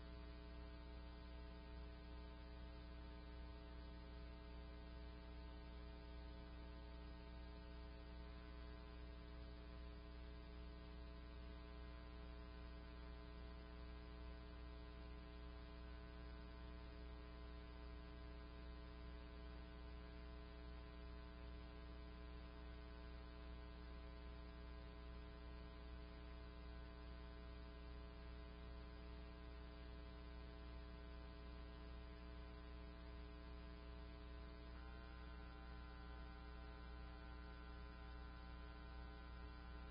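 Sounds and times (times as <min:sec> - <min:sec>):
faint electrical hum: 0:00.0 - 0:39.9.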